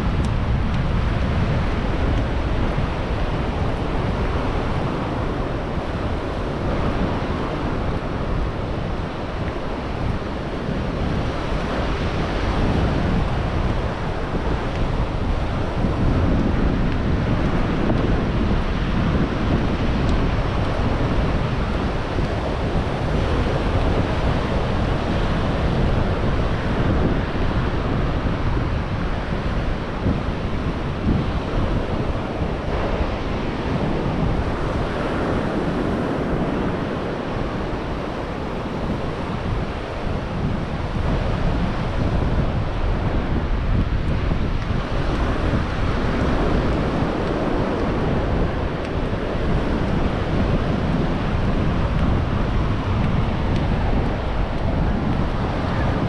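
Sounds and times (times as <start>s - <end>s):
ocean surf washing ashore: 0.0s - 56.0s
wind buffeting microphone: 0.0s - 56.0s.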